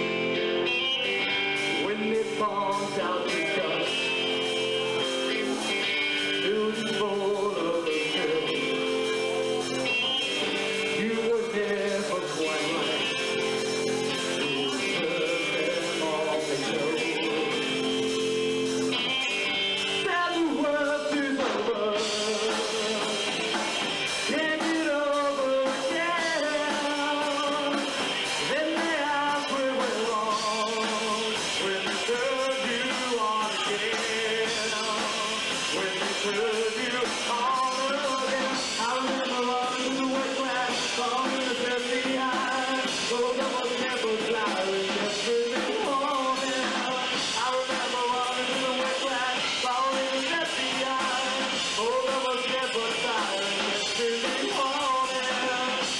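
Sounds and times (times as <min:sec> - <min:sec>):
rock song with vocals: 0:00.0 - 0:55.9.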